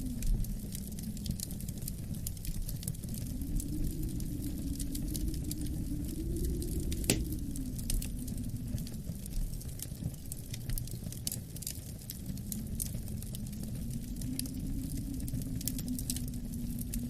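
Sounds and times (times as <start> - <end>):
low wind rumble: 0.0 - 17.0
wood fire crackling: 0.0 - 17.0.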